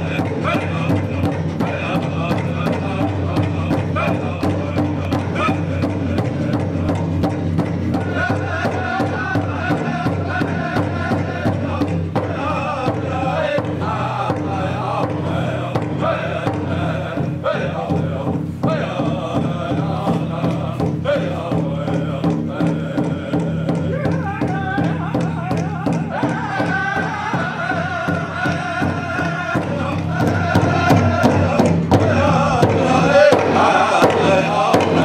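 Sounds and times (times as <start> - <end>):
group of voices chanting: 0.0 - 6.9, 8.0 - 35.0
steady drumbeat: 0.0 - 35.0.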